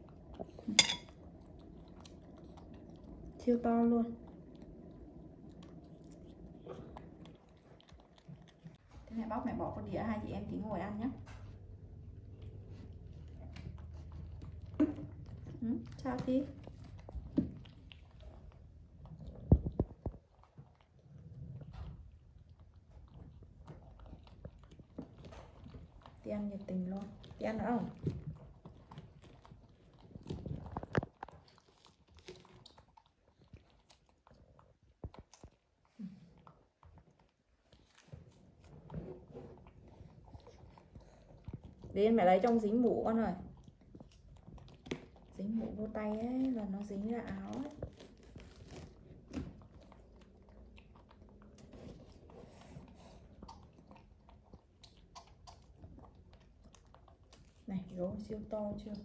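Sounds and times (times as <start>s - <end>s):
soft chewing and smacking: 0.0s - 59.0s.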